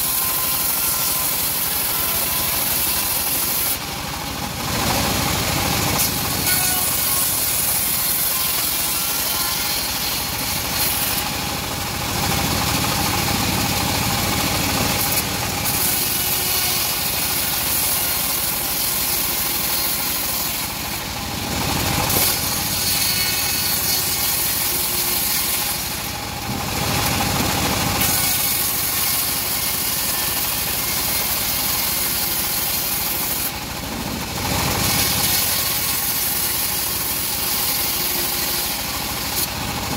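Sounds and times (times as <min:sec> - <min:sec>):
saw blade cutting wood hiss: 0:00.0 - 0:03.8, 0:05.3 - 0:12.3, 0:13.0 - 0:21.1, 0:22.0 - 0:26.3, 0:27.0 - 0:33.8, 0:34.6 - 0:39.6
bandsaw mill engine drone: 0:00.0 - 0:39.9.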